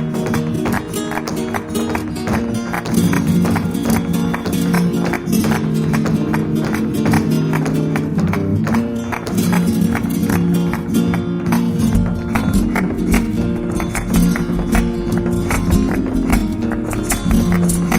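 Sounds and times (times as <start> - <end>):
flamenco acoustic guitar strumming: 0.0 - 17.9.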